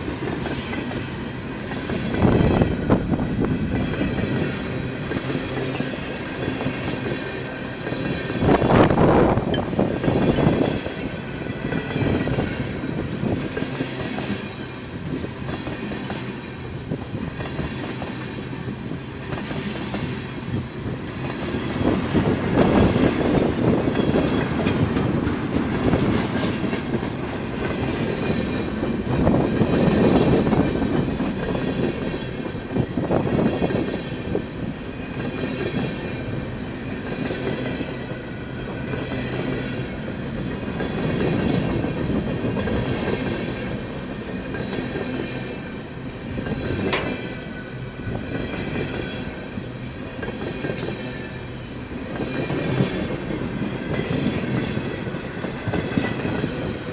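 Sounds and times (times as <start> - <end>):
freight train wheels clacking: 0.0 - 56.9.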